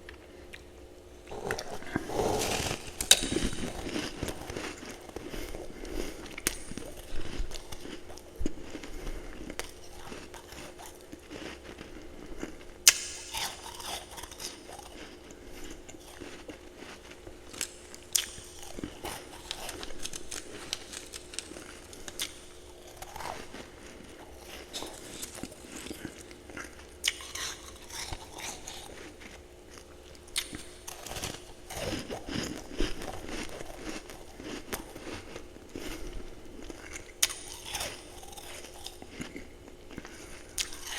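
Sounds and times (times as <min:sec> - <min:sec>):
steady low hum: 0:00.0 - 0:40.9
person crunching ice: 0:01.3 - 0:26.3, 0:27.0 - 0:29.4, 0:30.4 - 0:40.9.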